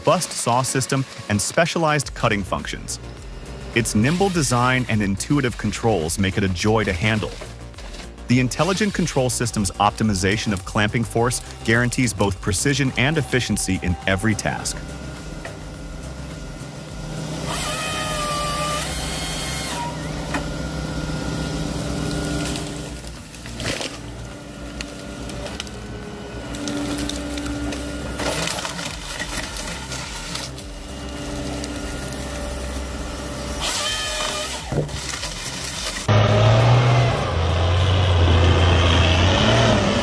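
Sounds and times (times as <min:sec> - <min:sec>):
harvester engine and hydraulics: 0:00.0 - 0:40.0.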